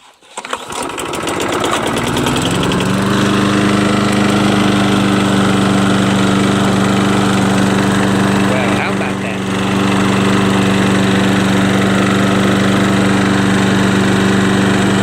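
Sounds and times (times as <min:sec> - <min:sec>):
lawn mower engine starting: 0:00.0 - 0:15.0.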